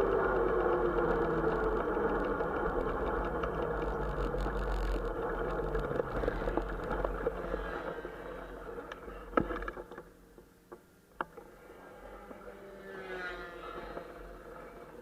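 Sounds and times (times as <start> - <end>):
small motorcycle engine running: 0.0 - 9.7, 11.6 - 15.0.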